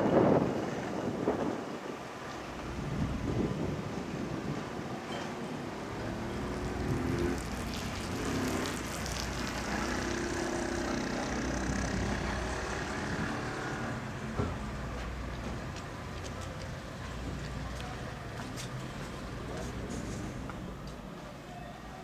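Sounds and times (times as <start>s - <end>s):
boat engines humming: 0.1s - 22.0s.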